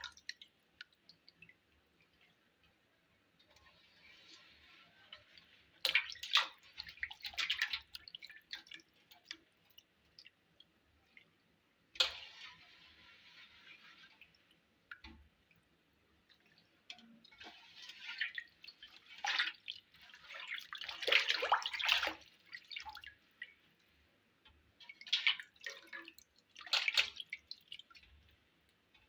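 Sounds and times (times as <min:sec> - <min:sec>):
water splashing and dripping: 0:00.0 - 0:29.0.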